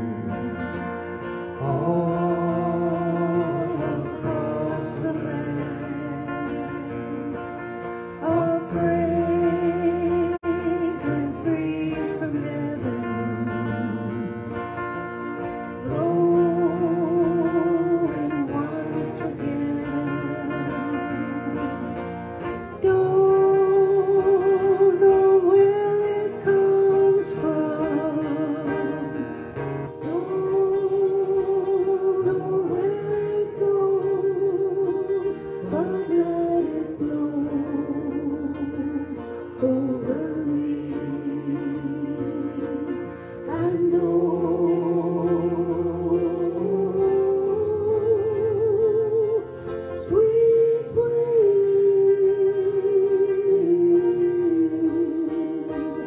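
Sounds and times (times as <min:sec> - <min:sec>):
acoustic guitar: 0:00.0 - 0:56.0
electric guitar: 0:00.0 - 0:56.0
man singing: 0:00.0 - 0:56.0.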